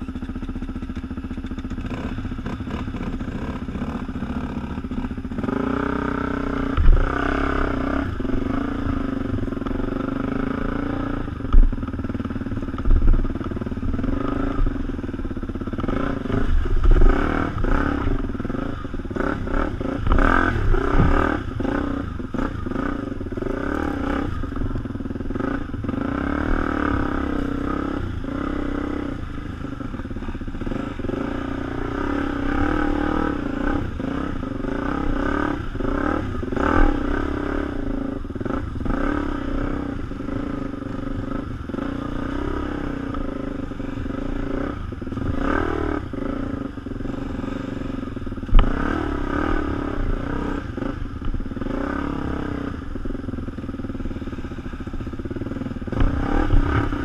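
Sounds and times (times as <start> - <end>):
off-road motorcycle engine running: 0.0 - 57.0.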